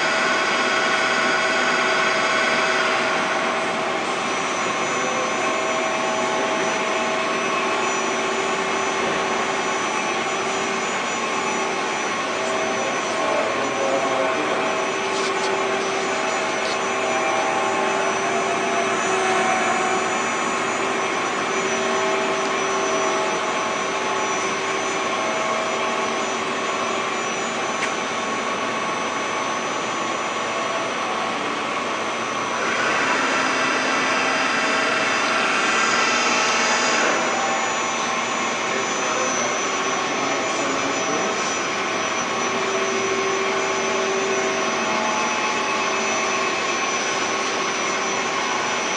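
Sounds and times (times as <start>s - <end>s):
boring mill mechanical whir: 0.0s - 48.9s.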